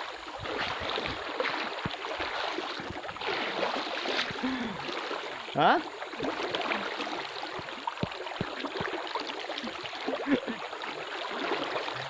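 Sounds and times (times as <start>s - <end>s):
person wading through water: 0.0s - 12.0s.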